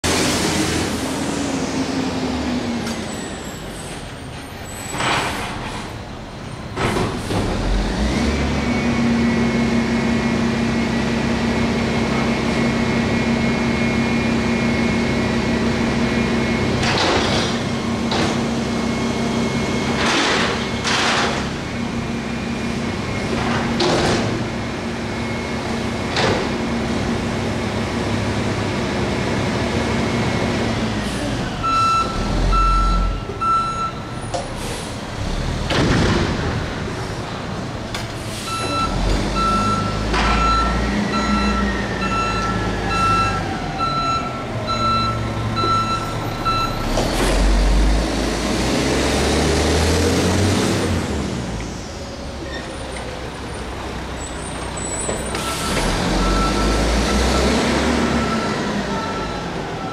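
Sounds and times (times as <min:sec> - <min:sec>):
garbage truck diesel engine revving: 0:00.0 - 0:03.0, 0:07.0 - 0:33.6, 0:34.6 - 0:59.9.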